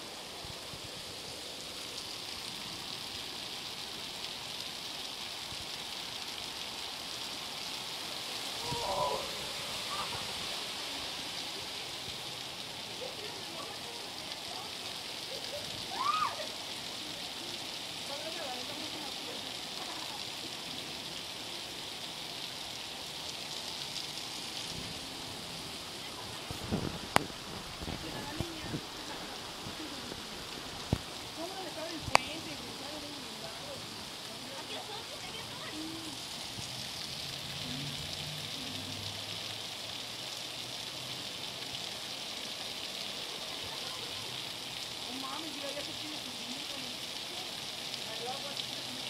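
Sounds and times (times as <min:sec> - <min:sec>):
floodwater running: 0:00.0 - 0:49.0
heavy rain hissing: 0:00.0 - 0:49.0.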